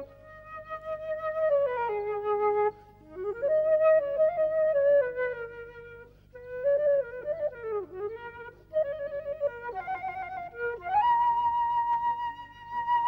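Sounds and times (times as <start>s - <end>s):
flute playing slow melody: 0.0s - 13.0s.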